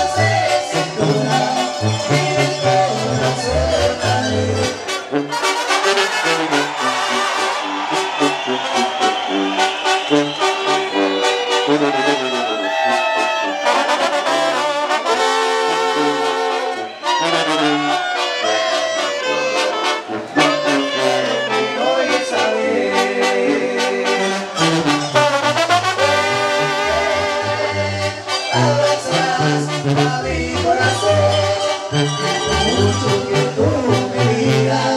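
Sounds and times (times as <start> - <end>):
brass band playing: 0.0 - 34.9.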